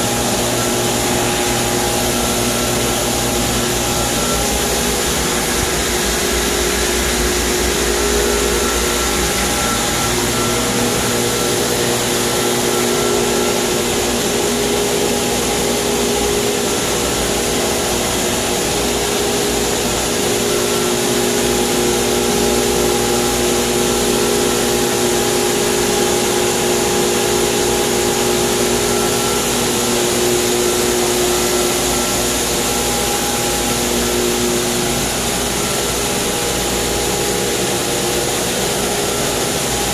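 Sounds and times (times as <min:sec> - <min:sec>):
multi-tone hum: 0:00.0 - 0:39.9
pool pumps hissing: 0:00.0 - 0:39.9.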